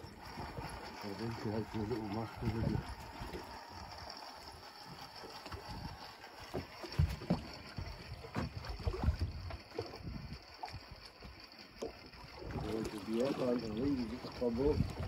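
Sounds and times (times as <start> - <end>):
water lapping against hull: 0.0 - 15.0.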